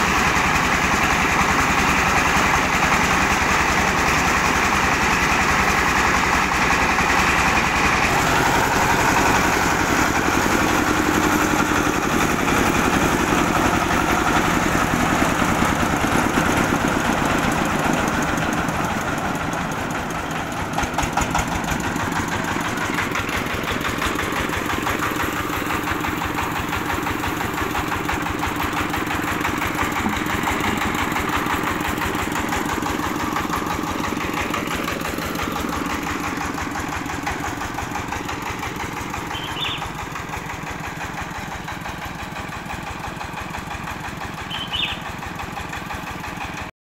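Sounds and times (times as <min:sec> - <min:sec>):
diesel engine running: 0:00.0 - 0:46.7.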